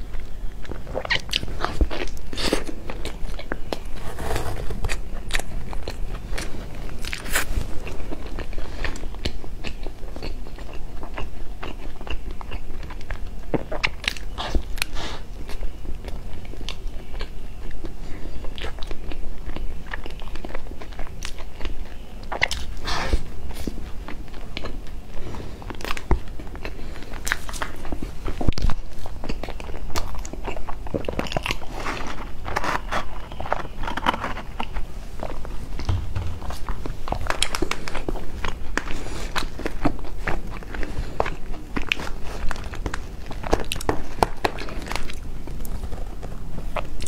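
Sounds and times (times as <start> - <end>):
chewing flaky pastry: 0.0 - 47.0.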